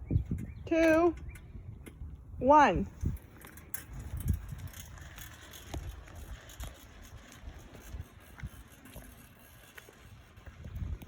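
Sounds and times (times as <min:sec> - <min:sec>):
bicycle rolling rumble: 0:00.0 - 0:11.0.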